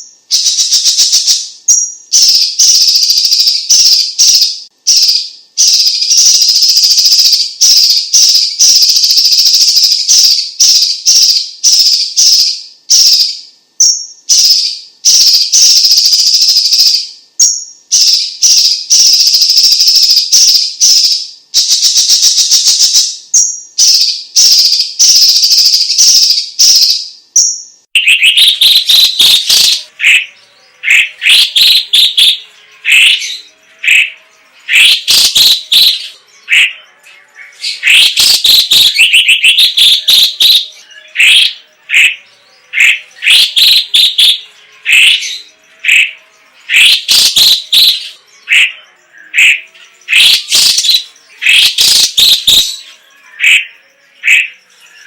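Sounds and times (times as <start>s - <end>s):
leafbird song phrases: 0.0s - 55.0s.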